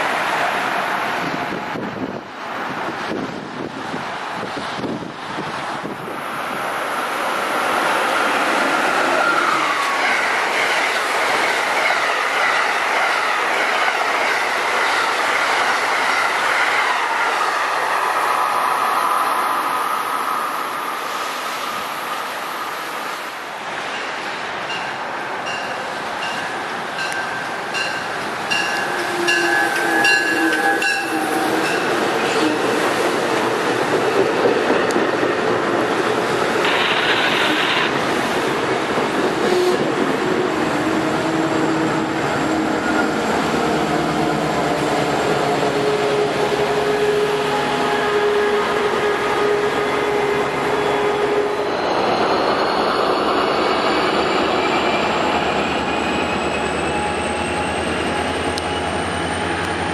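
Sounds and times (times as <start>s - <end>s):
train cars rumbling and clacking: 0.0s - 20.1s, 20.8s - 59.9s
diesel locomotive engine: 0.0s - 59.9s.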